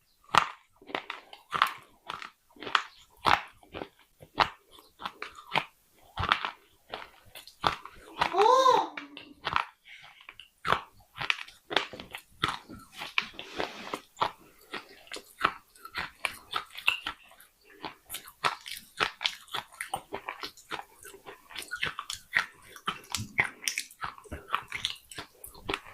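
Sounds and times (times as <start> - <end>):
person crunching baked clay: 0.3 - 8.4, 9.0 - 25.9.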